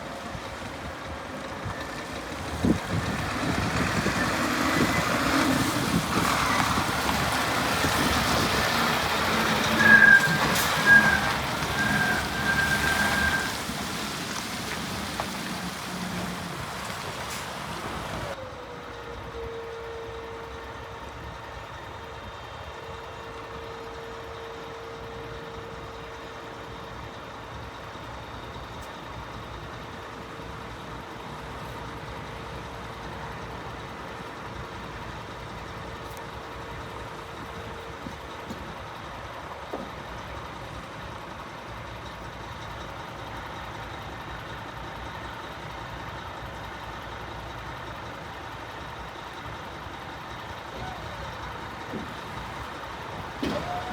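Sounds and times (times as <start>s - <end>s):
truck engine running: 0.0s - 19.3s, 24.6s - 53.9s.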